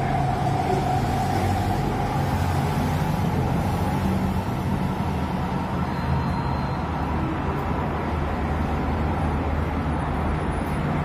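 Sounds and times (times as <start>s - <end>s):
cars and motorcycles passing: 0.0s - 11.0s.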